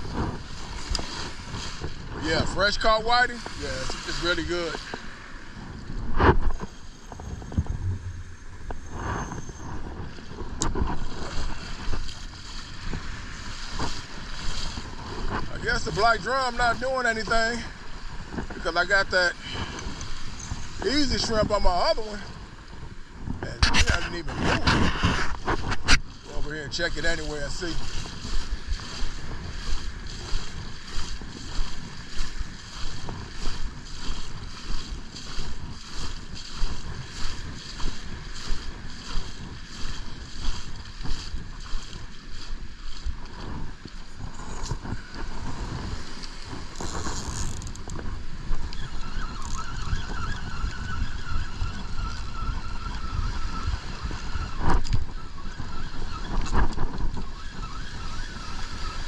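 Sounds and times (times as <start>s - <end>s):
footsteps on wet sand: 0.0s - 48.7s
surf: 0.0s - 59.0s
wind buffeting microphone: 0.0s - 59.0s.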